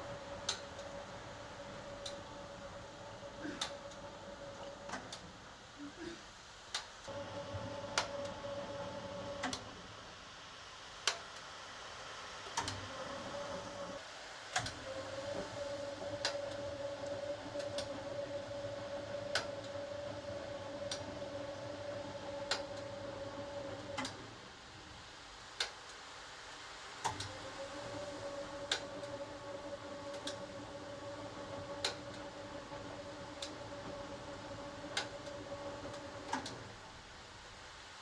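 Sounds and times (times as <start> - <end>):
washing machine hum: 0.0 - 25.7, 26.8 - 38.0.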